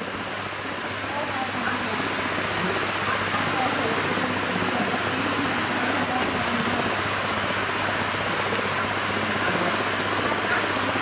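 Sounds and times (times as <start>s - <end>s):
hose jet spraying water: 0.0s - 11.0s
faint voices: 1.0s - 11.0s.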